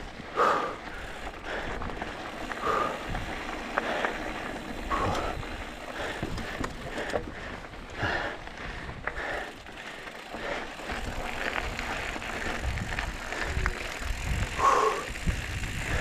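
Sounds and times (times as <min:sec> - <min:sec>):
bike tyres crunching on gravel: 0:00.0 - 0:16.0
bike clicks and knocks: 0:00.8 - 0:16.0.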